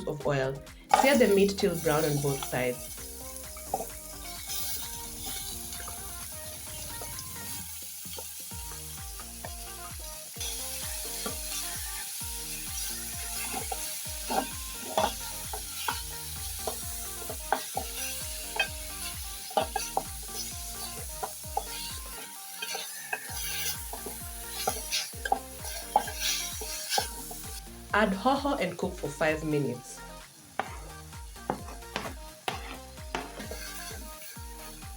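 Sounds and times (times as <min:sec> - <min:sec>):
meat sizzling in hot oil: 0:00.8 - 0:34.9
utensil scraping a pot: 0:00.9 - 0:07.6, 0:10.4 - 0:27.7, 0:30.6 - 0:34.9.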